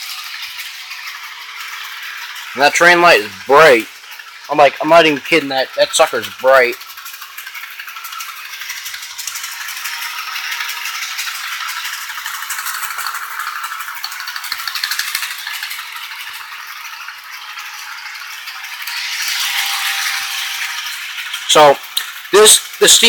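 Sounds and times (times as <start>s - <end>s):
model train wheels clicking: 0.0s - 23.0s.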